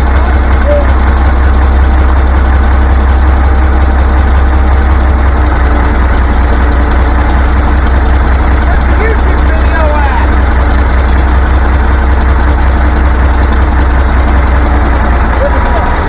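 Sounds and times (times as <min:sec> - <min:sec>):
diesel generator engine droning: 0:00.0 - 0:16.0.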